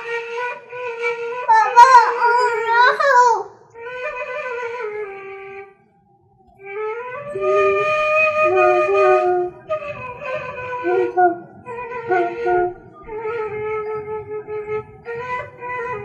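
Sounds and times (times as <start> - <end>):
slow flute melody: 0.0 - 16.0.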